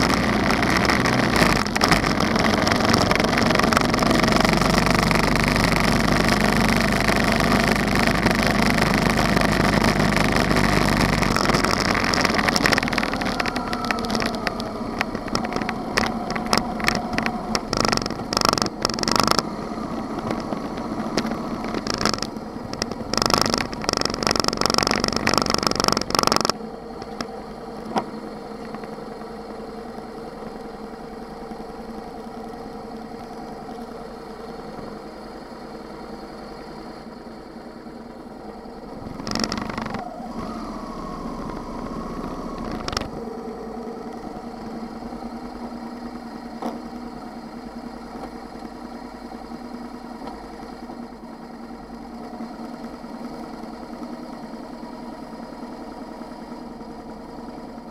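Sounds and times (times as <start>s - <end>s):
motorcycle engine: 0.0s - 57.9s.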